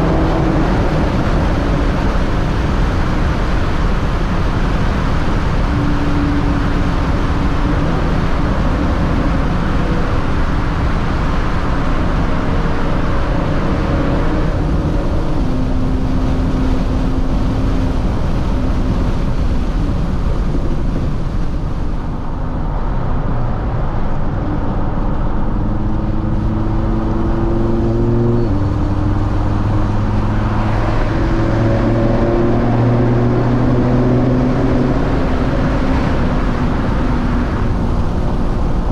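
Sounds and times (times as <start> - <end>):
car engine droning in cabin: 0.0 - 38.9
tyre and road noise: 0.0 - 38.9.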